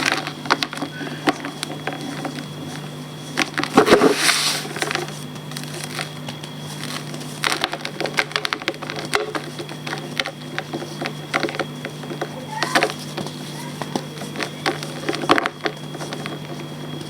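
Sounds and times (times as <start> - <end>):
chalk crunching and crackling: 0.0 - 17.0.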